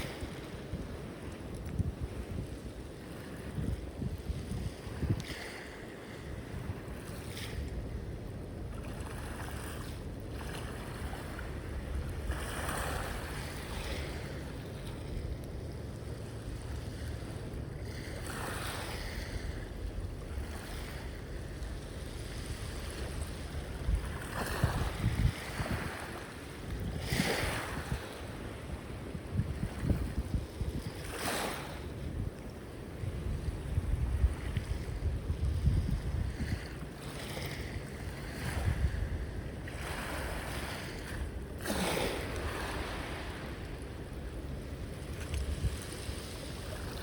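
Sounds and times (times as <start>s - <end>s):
sea waves washing on shore: 0.0s - 47.0s
wind rumble on microphone: 0.0s - 47.0s.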